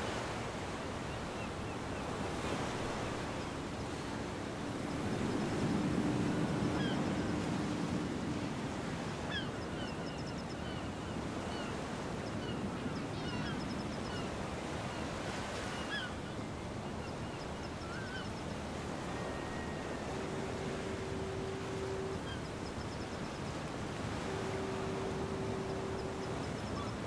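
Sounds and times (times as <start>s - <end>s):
ocean surf washing in: 0.0s - 27.0s.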